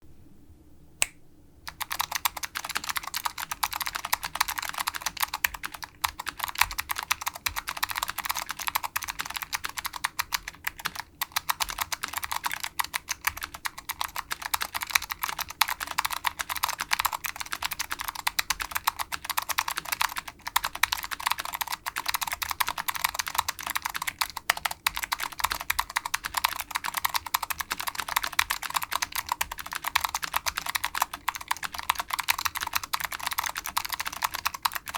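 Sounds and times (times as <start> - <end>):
fast typing on clicky keyboard: 1.7 - 34.9.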